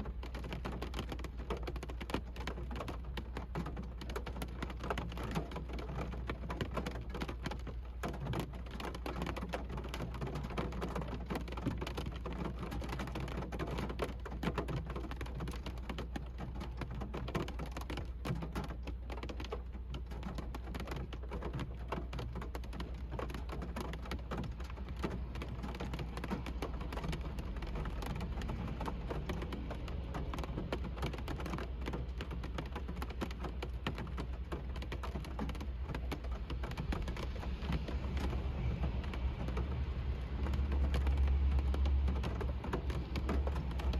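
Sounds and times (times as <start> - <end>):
constant low rumble: 0.0 - 43.9
rain drumming on car roof: 0.0 - 43.9.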